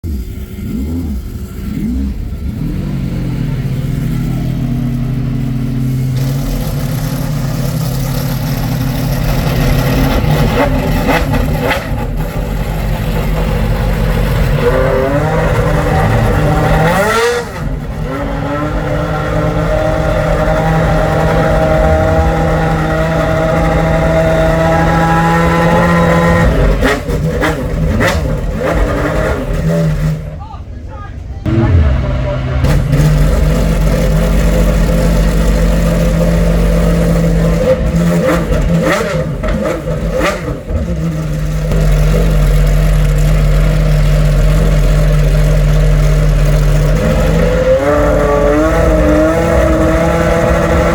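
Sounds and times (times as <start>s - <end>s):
car engine starting and idling: 0.0s - 30.5s, 31.2s - 50.9s.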